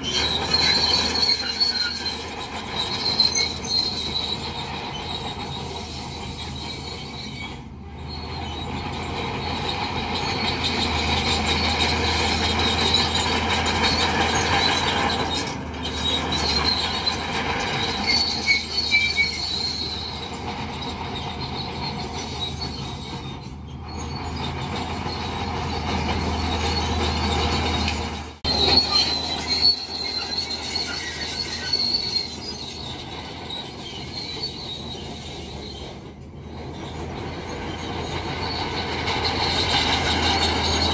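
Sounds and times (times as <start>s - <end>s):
bulldozer diesel engine hum: 0.0s - 40.9s
steel tracks squealing: 0.0s - 40.9s.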